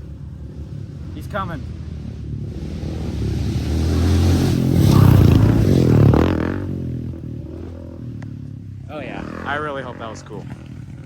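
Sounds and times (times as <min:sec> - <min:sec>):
dirt bike engine passing: 0:00.0 - 0:11.0.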